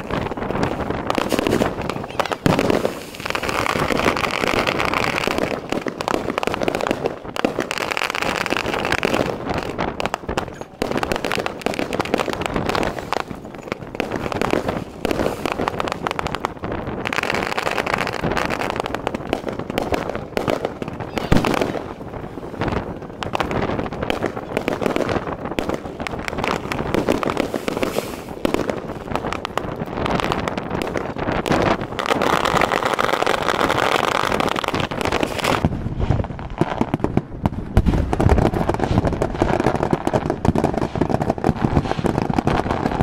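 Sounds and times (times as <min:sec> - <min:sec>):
fireworks bangs: 0:00.0 - 0:43.0.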